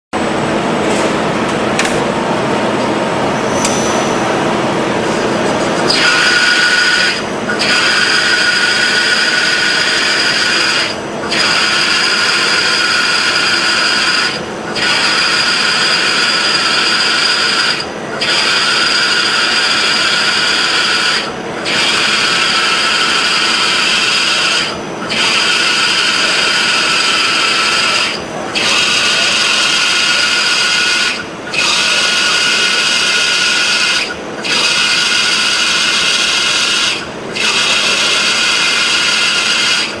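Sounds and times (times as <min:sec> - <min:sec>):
milling machine cutting: 0:05.6 - 0:40.0.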